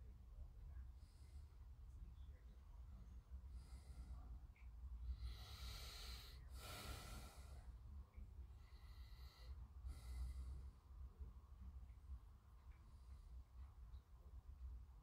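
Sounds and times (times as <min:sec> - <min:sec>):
low steady hum: 0:00.0 - 0:15.0
faint breathing: 0:00.6 - 0:11.4, 0:12.6 - 0:14.2.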